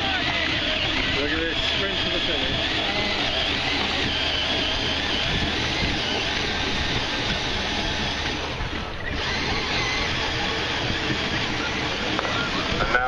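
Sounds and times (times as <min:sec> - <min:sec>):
cordless power tool whirring: 0:00.0 - 0:13.0
paddle wheels churning water: 0:00.0 - 0:13.0.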